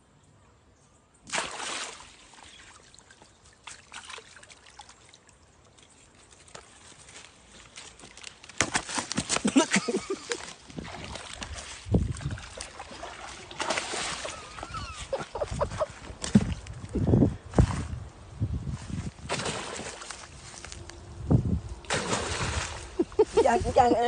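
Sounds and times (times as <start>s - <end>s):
water splashing and sloshing: 1.2s - 18.0s, 18.7s - 20.9s, 21.7s - 24.0s.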